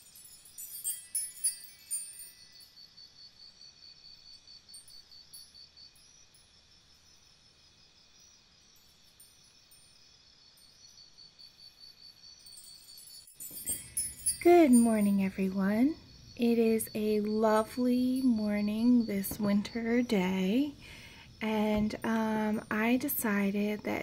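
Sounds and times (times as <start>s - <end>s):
high tinkling chimes: 0.0s - 7.5s, 8.3s - 23.7s.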